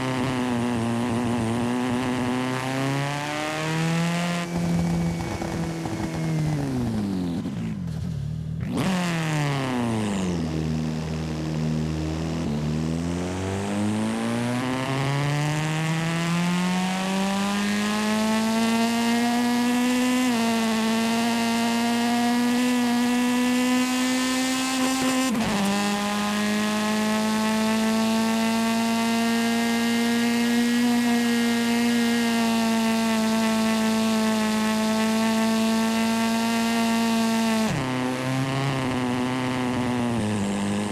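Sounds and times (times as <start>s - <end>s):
video game car engine revving: 0.0s - 40.9s.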